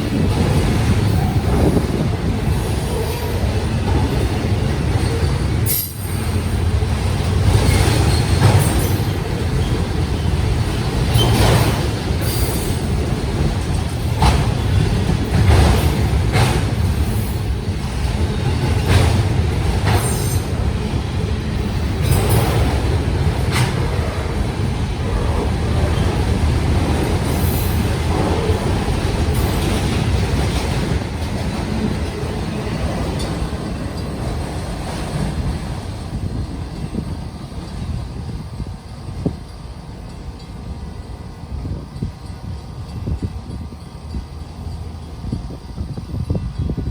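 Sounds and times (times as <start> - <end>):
freight train rumbling: 0.0 - 46.9.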